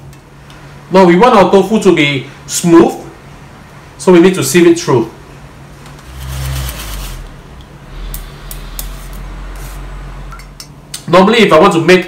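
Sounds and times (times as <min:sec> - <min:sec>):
low steady hum: 0:00.0 - 0:11.1.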